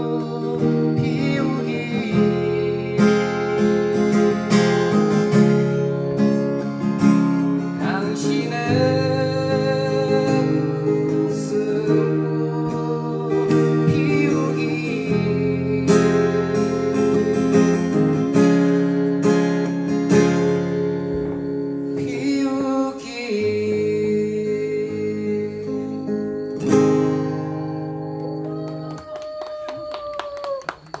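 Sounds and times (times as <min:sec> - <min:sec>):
acoustic guitar strumming: 0:00.0 - 0:28.9.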